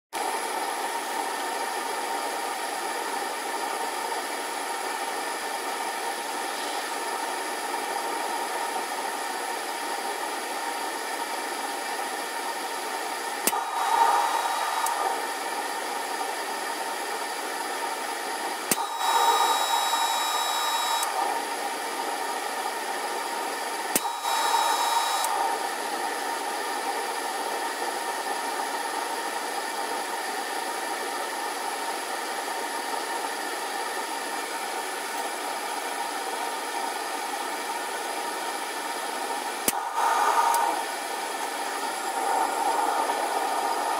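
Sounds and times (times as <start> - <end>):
forge running: 0.2 - 43.9.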